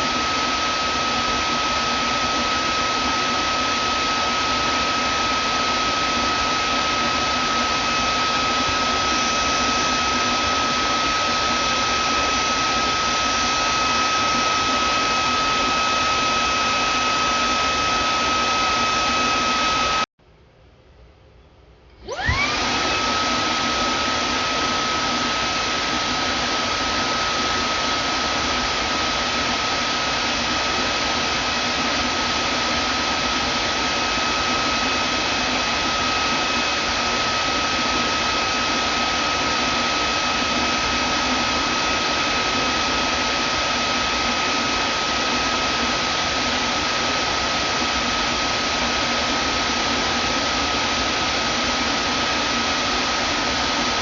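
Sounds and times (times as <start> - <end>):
vacuum cleaner whining: 0.0 - 20.1, 21.9 - 54.0.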